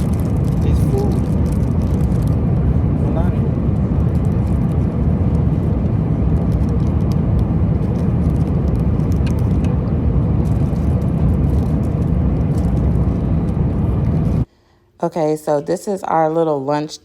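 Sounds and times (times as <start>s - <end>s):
airliner cabin engine rumble: 0.0s - 14.5s.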